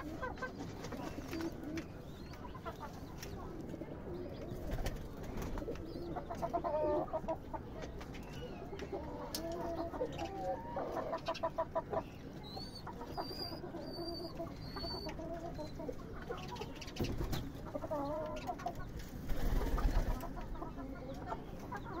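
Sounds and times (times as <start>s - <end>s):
pigeons cooing: 0.0s - 7.7s, 8.4s - 22.0s.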